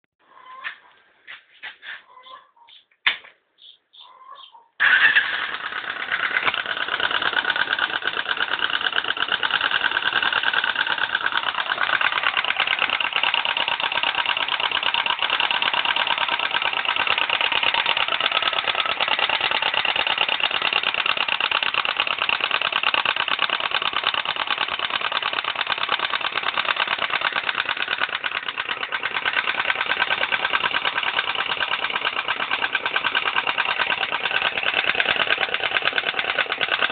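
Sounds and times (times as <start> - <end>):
motorcycle engine knocking: 5.3 - 36.9.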